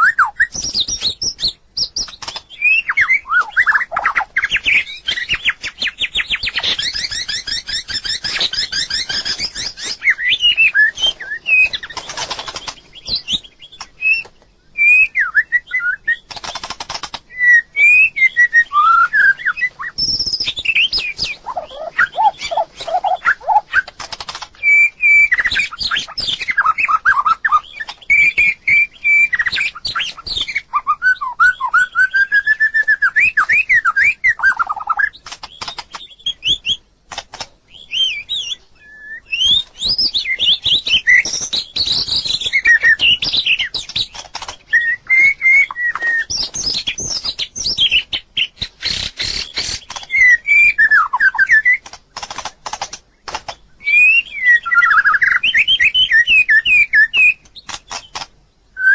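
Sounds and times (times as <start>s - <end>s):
bird singing whistles and trills: 0.0s - 36.9s, 37.7s - 51.9s, 53.2s - 58.9s.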